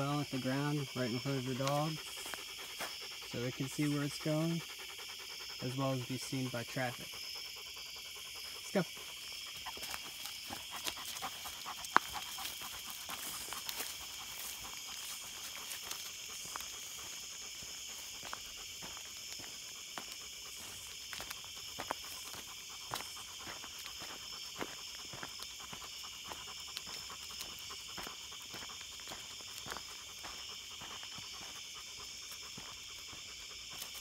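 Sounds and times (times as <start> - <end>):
footsteps on dirt path: 0.0 - 4.6, 8.8 - 34.0
dog panting: 0.0 - 34.0.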